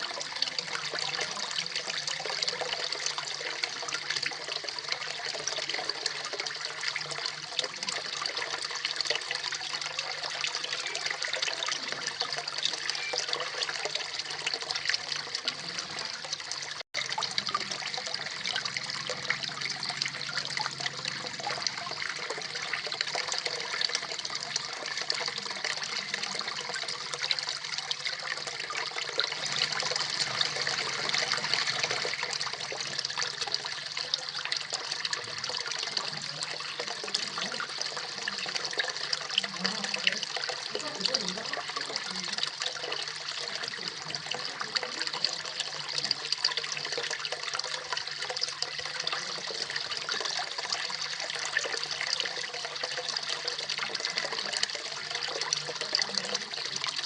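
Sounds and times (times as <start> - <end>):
waterfall splashing into pond: 0.0 - 57.0.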